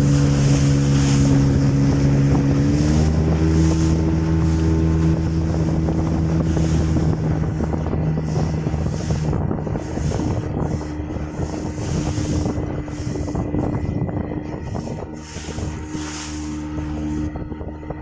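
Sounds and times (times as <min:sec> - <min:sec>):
motorboat engine running: 0:00.0 - 0:18.0
wind buffeting microphone: 0:00.0 - 0:18.0.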